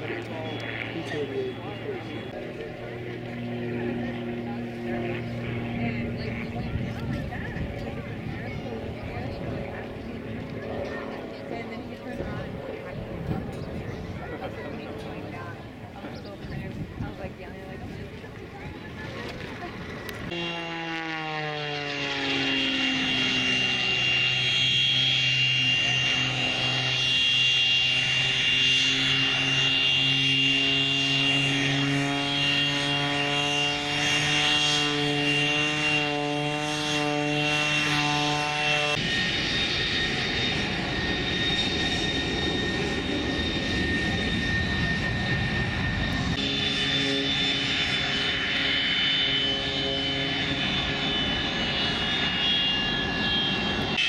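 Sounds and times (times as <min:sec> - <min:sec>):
aircraft engine whine and drone: 0:00.0 - 0:54.0.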